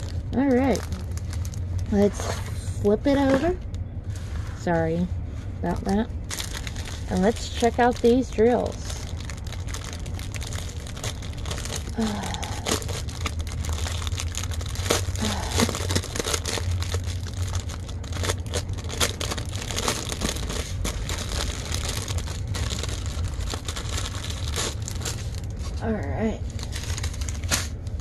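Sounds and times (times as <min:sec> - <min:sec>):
plastic bags crinkling: 0:00.0 - 0:02.3, 0:05.6 - 0:25.8, 0:26.4 - 0:28.0.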